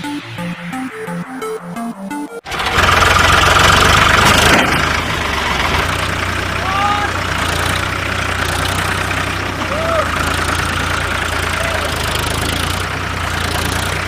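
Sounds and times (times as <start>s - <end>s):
tractor engine idling: 2.4s - 14.0s.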